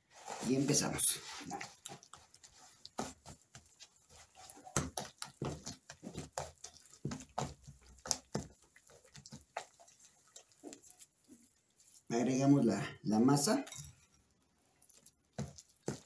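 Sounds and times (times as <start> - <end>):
wet dough squelching and slapping: 0.0 - 16.0.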